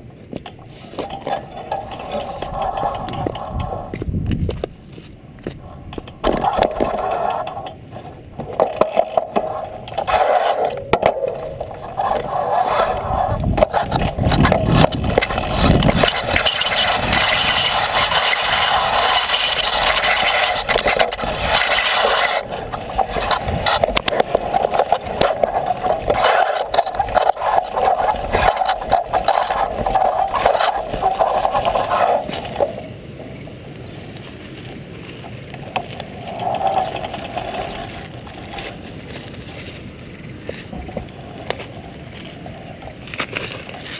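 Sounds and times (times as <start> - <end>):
bicycle rattling on rocky trail: 0.0 - 43.9.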